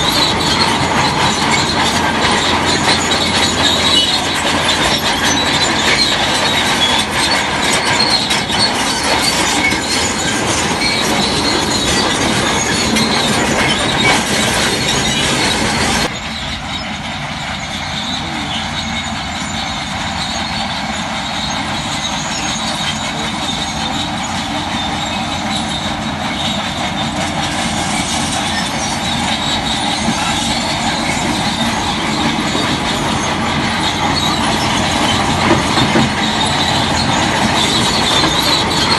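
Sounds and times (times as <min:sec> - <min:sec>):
bulldozer engine: 0:00.0 - 0:38.9
bulldozer tracks clanking and squealing: 0:00.0 - 0:38.9.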